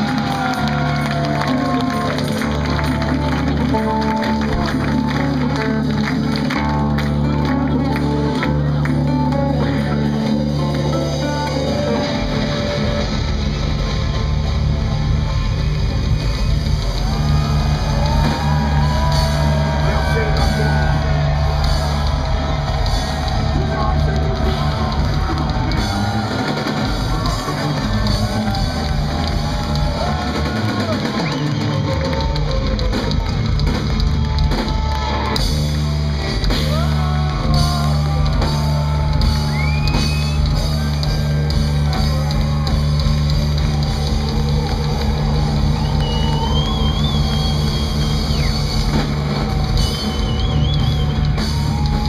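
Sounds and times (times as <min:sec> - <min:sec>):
metal band playing live: 0:00.0 - 0:52.0.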